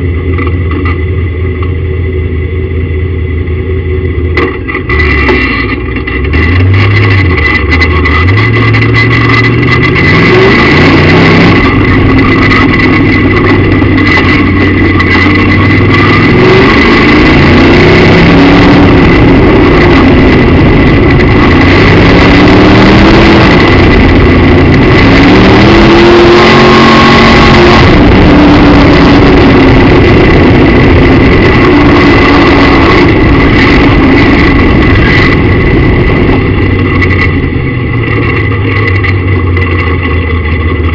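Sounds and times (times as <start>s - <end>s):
race car engine revving: 3.7s - 40.9s.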